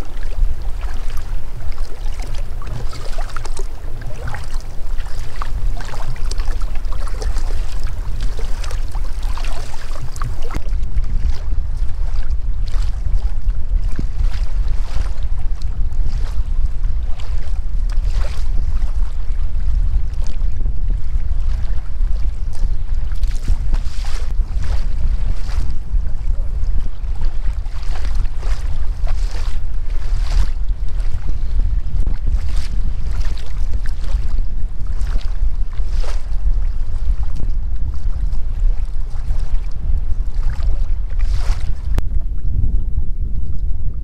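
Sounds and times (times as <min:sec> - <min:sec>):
water slapping against kayak hull: 0:00.0 - 0:42.8
wind buffeting microphone: 0:00.0 - 0:44.0.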